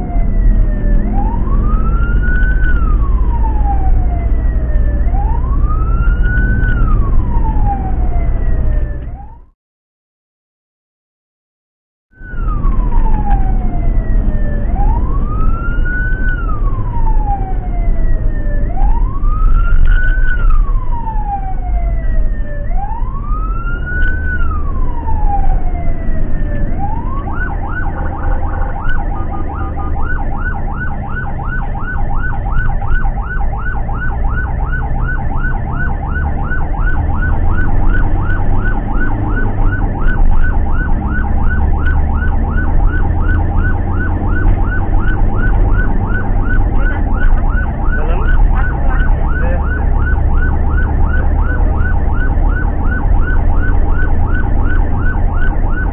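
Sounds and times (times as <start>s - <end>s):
ambulance siren wailing and yelping: 0.0s - 9.5s, 12.2s - 55.9s
van engine and road rumble: 0.0s - 9.5s, 12.2s - 55.9s.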